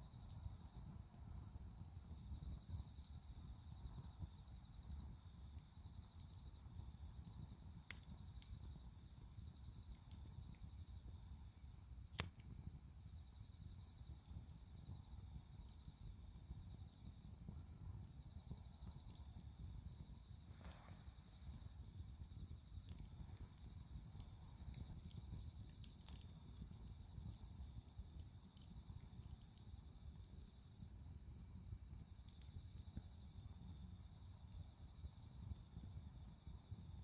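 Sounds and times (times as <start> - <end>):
firewood crackling and popping: 0.1 - 37.0.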